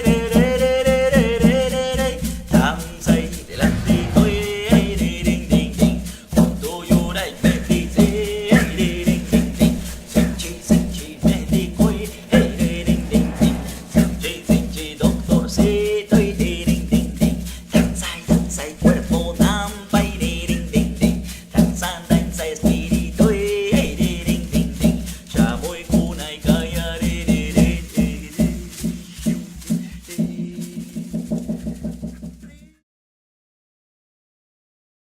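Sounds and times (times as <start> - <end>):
shaken percussion: 0.0 - 32.8
singing voice: 0.0 - 32.8.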